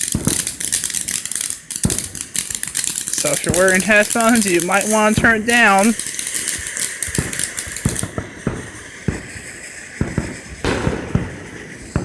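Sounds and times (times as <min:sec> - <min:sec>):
fireworks popping and crackling: 0:00.0 - 0:12.0
high firework whistle: 0:00.0 - 0:12.0.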